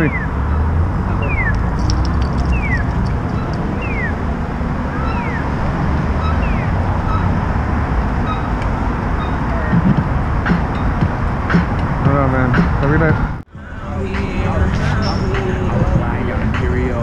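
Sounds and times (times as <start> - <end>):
crossing signal chirping: 0.0 - 16.7
traffic noise: 0.0 - 17.0.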